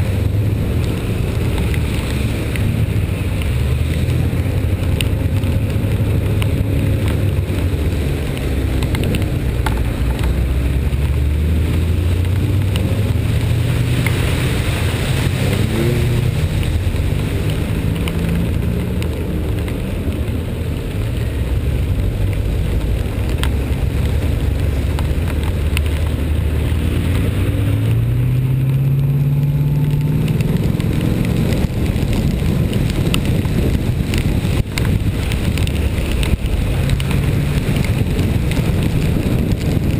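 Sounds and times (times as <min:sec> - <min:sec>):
wet road noise: 0:00.0 - 0:39.9.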